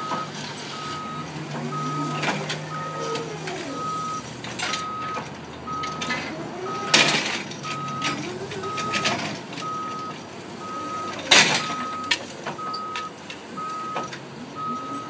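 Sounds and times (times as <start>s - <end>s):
forklift warning beeper: 0.0s - 15.0s.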